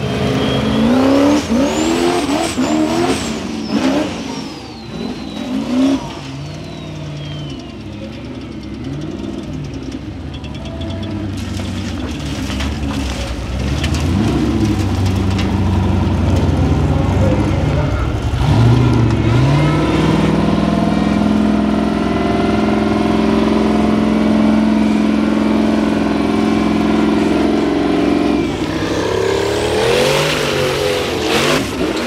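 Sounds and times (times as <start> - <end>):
buggy engine revving: 0.0 - 32.0.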